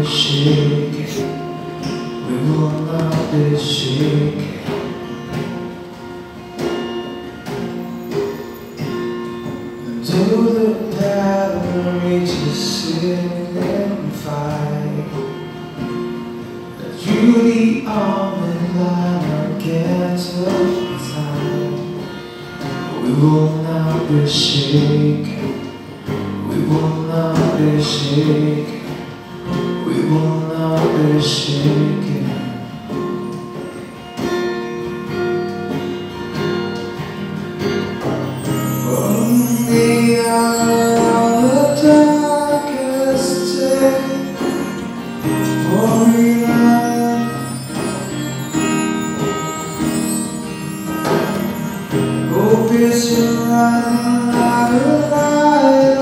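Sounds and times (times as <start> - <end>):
drums: 0.0 - 56.0
guitars: 0.0 - 56.0
live band playing: 0.0 - 56.0.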